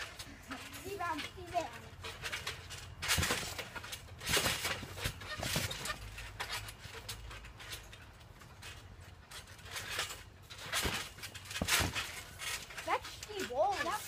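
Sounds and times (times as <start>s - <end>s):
feet thumping on trampoline: 0.0s - 14.0s.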